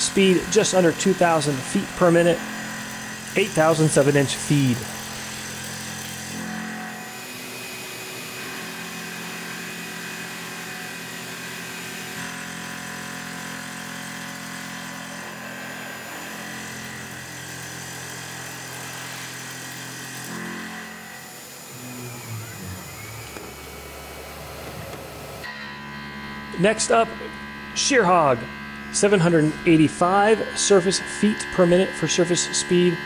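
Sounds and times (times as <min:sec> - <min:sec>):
milling machine spindle whining: 0:00.0 - 0:33.0.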